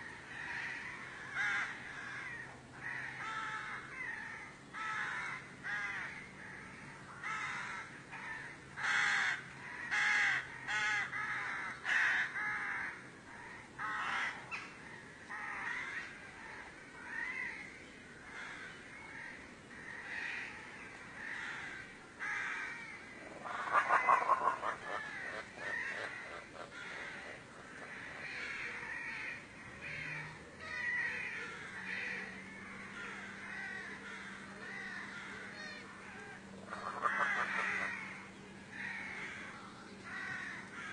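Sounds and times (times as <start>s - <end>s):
rapid rattling call: 0.0s - 40.9s.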